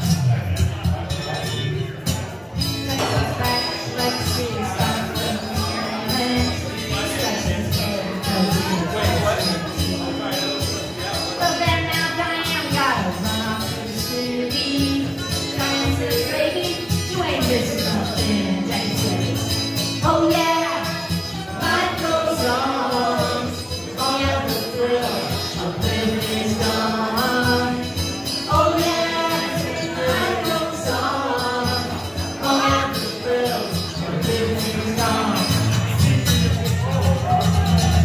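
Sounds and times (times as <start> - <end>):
acoustic guitar: 0.0 - 38.0
woman singing into a microphone: 2.9 - 9.2, 11.4 - 36.0.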